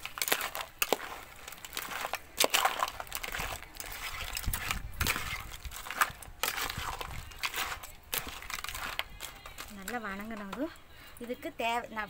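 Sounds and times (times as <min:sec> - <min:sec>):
spoon scraping metal pan: 0:00.0 - 0:10.7.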